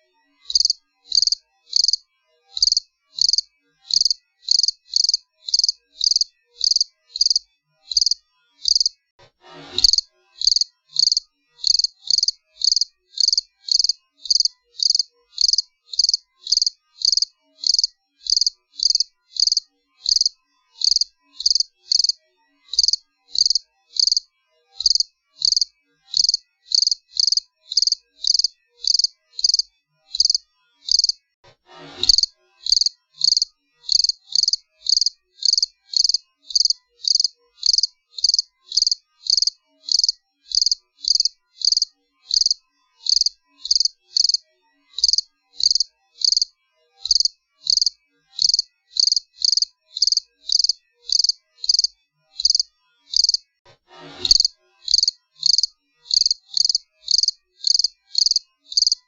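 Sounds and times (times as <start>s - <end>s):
cricket chirping: 0.5s - 2.0s, 2.6s - 9.0s, 9.8s - 24.2s, 24.8s - 31.2s, 32.1s - 44.4s, 45.0s - 53.4s, 54.3s - 59.0s.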